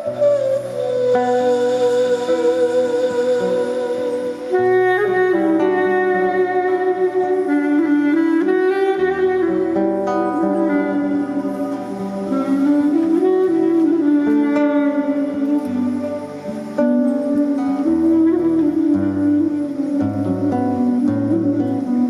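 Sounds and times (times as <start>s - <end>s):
sustained melodic notes: 0.0s - 22.0s.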